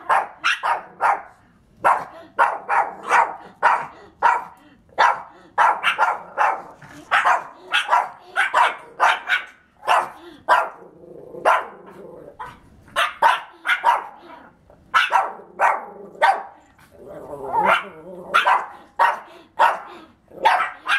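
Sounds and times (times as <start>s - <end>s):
small dog barking: 0.0s - 10.8s, 11.4s - 16.6s, 17.5s - 20.9s.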